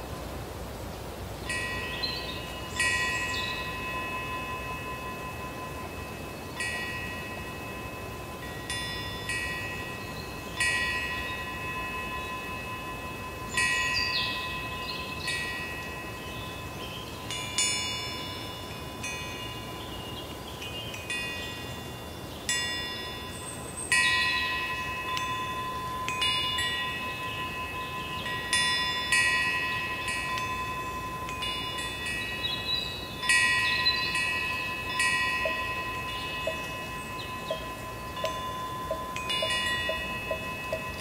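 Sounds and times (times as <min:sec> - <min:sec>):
temple bell ringing in wind: 0:01.2 - 0:41.0.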